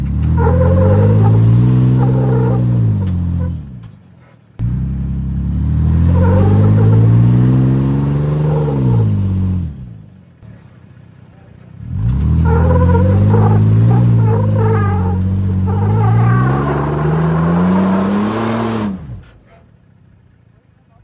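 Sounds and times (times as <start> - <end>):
off-road vehicle engine revving: 0.0 - 20.2.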